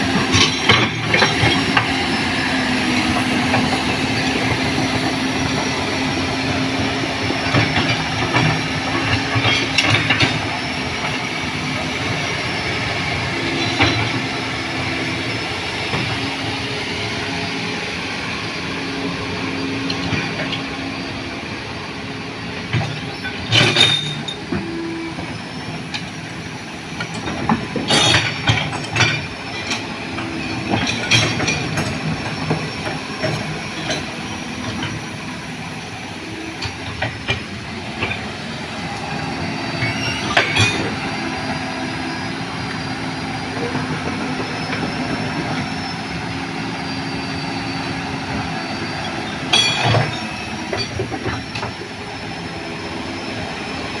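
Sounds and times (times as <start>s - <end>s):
heavy diesel machine running: 0.0s - 54.0s
metal track clanks and squeals: 0.0s - 54.0s.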